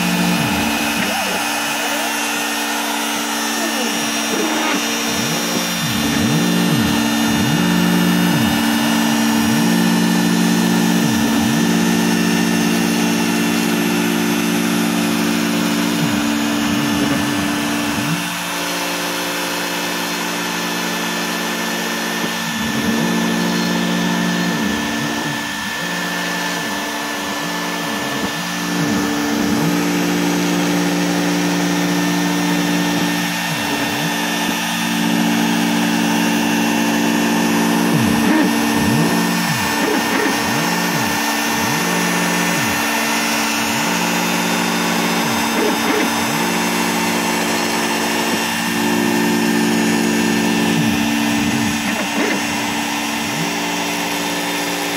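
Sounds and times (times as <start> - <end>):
router running at high speed: 0.0 - 54.9
stepper motors whining: 0.0 - 54.9.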